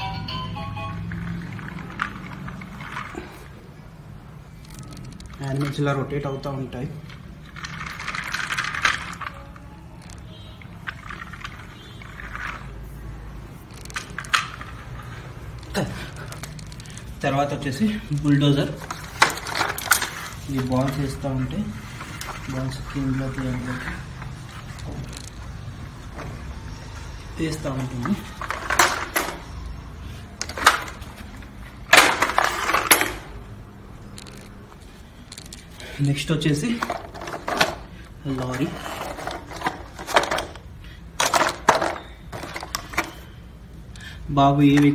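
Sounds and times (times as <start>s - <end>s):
toy plastic clattering: 1.2s - 3.5s, 4.5s - 12.8s, 13.6s - 25.5s, 27.5s - 29.7s, 30.4s - 33.4s, 34.1s - 43.3s.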